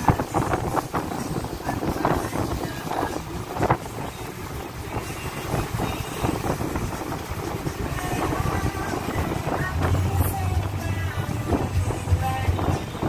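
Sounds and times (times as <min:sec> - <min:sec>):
boat engine running: 0:00.0 - 0:13.0
choppy water splashing: 0:00.0 - 0:13.0
wind buffeting microphone: 0:00.0 - 0:13.0.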